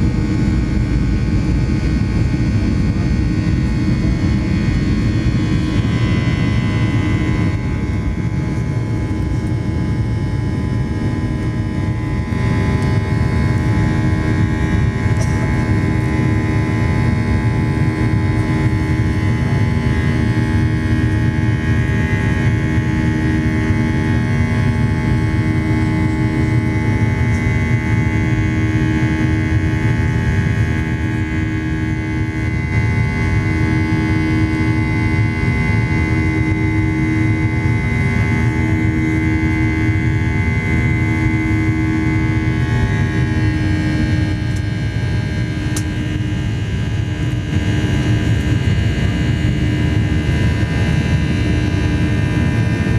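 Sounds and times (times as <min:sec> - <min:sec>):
jet engine and airflow rumble: 0:00.0 - 0:52.9.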